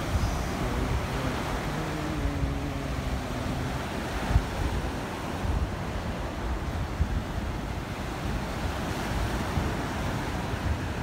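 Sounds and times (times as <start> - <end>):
surf washing up a beach: 0.0 - 11.0
wind buffeting microphone: 0.0 - 11.0.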